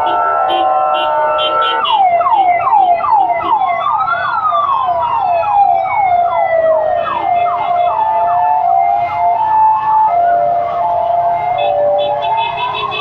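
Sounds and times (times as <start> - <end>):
fast falling siren sweep: 0.0 - 12.9
slow wailing siren: 0.0 - 13.0.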